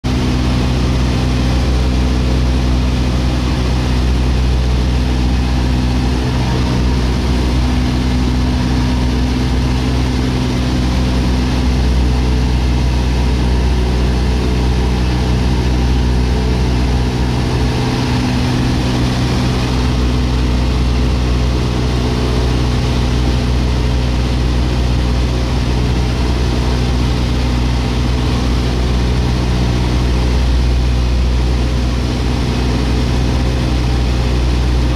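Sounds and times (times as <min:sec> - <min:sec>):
jet engines humming: 0:00.1 - 0:34.9.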